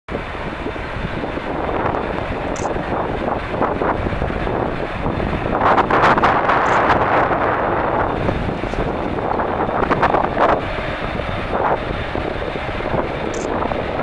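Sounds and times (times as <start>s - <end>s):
jet engines running: 0.1s - 14.0s
wind buffeting microphone: 0.1s - 14.0s.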